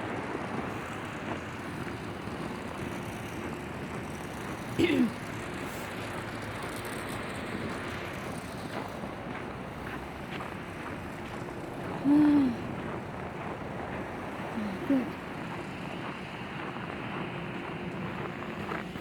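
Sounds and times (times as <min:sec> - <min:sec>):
distant traffic: 0:00.0 - 0:19.0
wind: 0:00.0 - 0:19.0.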